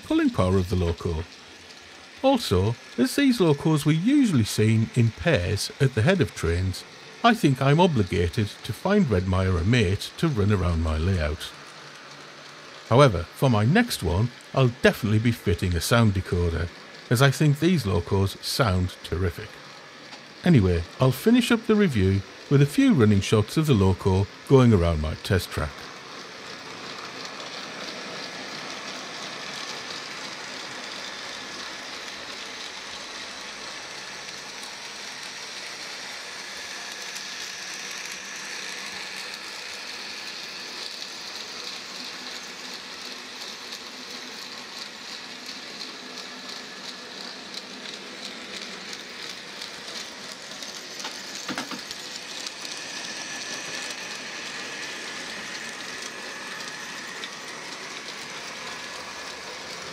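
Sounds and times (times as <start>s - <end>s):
model train motor whirr: 0.0s - 59.9s
wheels clicking on rails: 0.0s - 59.9s.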